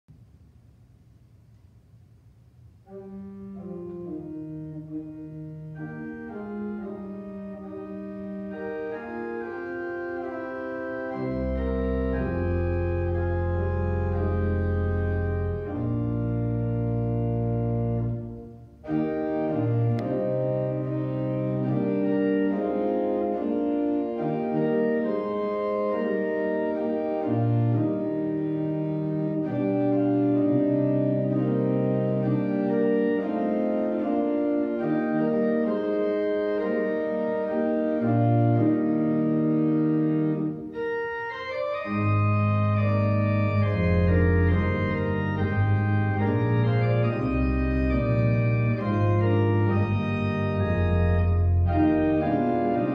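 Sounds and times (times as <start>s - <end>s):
pipe organ chords: 2.7s - 52.9s.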